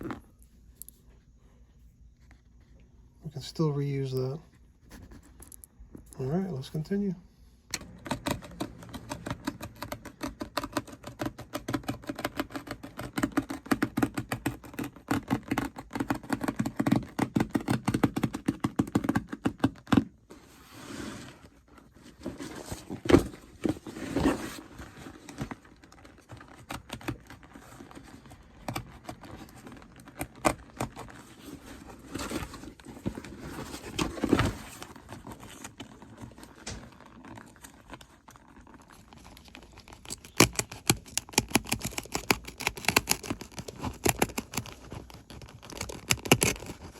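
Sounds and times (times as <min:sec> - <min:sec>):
small clicks and scratches: 0:04.1 - 0:07.0, 0:07.7 - 0:20.5, 0:21.4 - 0:46.9.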